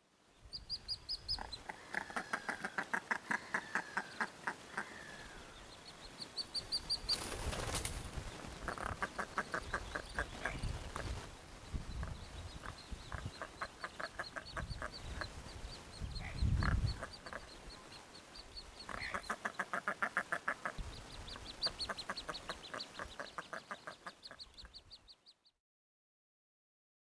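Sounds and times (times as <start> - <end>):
ducklings peeping: 0.5 - 7.2, 8.2 - 25.6.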